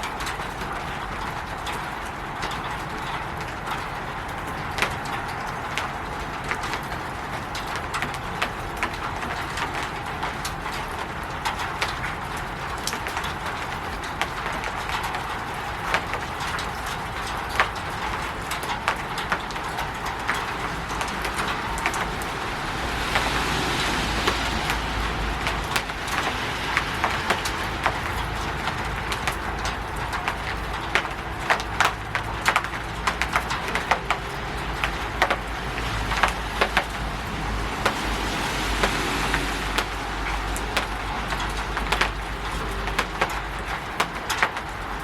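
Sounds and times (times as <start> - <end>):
rain hissing on a roof: 0.0 - 45.0
raindrops tapping: 0.0 - 45.0.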